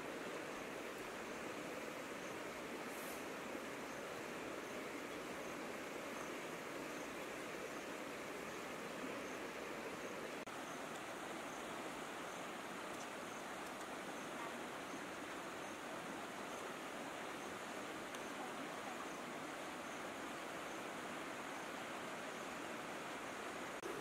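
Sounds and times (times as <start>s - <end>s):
river flowing: 0.0s - 24.0s.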